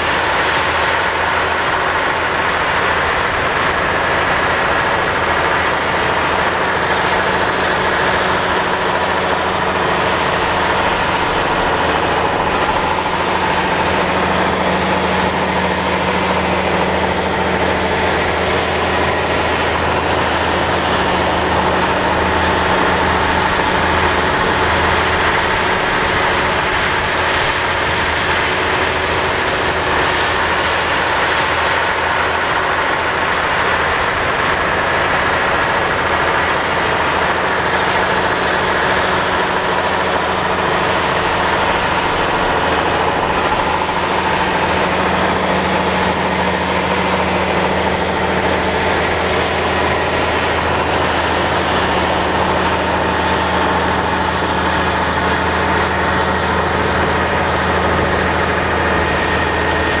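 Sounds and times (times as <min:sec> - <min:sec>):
tractor diesel engine droning: 0:00.0 - 1:00.0.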